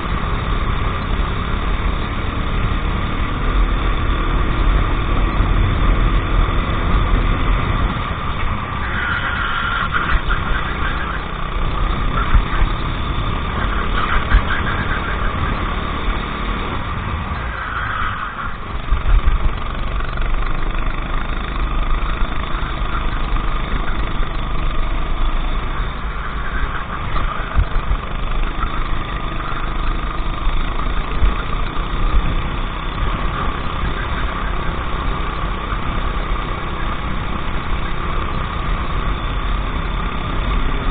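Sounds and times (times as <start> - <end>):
racing kart engine revving: 0.0 - 40.9.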